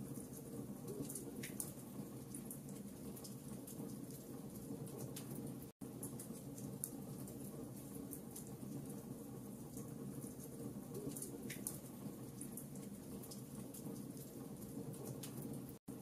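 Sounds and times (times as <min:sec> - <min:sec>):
log fire crackling: 0:00.0 - 0:15.8.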